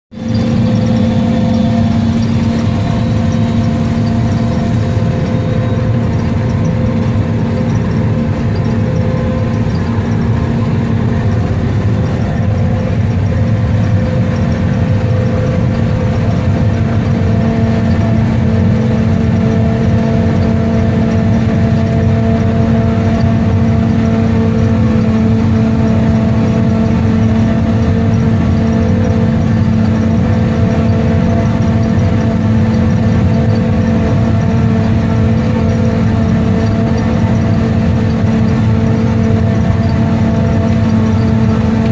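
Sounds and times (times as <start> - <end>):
tractor diesel engine droning: 0.0 - 41.9.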